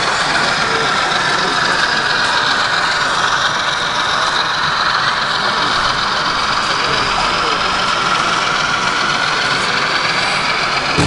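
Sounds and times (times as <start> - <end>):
busy hall din: 0.0 - 11.0
model train running: 0.0 - 11.0.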